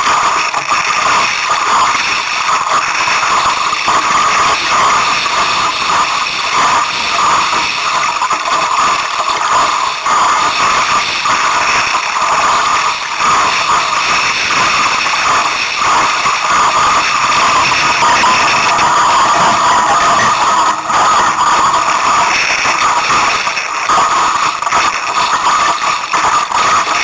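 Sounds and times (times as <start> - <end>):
water rushing along boat hull: 2.1 - 27.0.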